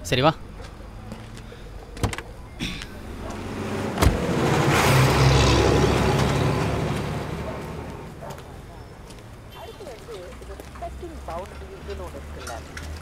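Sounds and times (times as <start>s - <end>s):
lorry passing: 0.4s - 12.4s.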